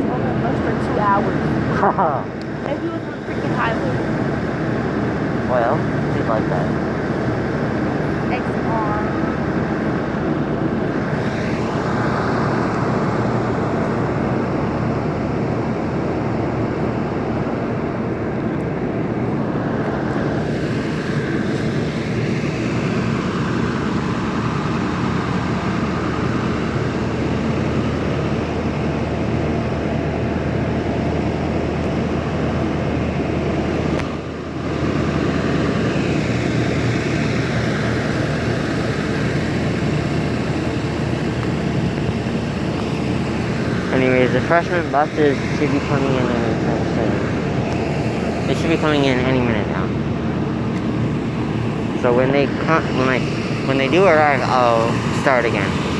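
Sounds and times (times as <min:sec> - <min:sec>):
diesel bus engine idling: 0:00.0 - 0:55.9.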